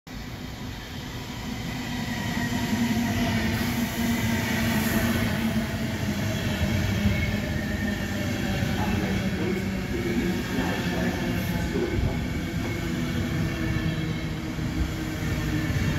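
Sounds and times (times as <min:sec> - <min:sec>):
passenger train rumble: 0:00.1 - 0:15.9.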